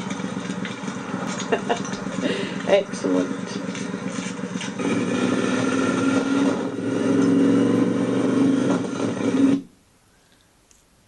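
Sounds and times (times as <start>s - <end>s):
motorcycle engines riding past: 0.0s - 9.6s.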